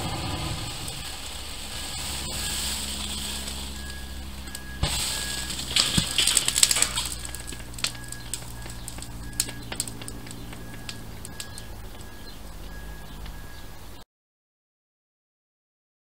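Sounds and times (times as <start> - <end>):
thermite fizzing and crackling: 0.0 - 13.8.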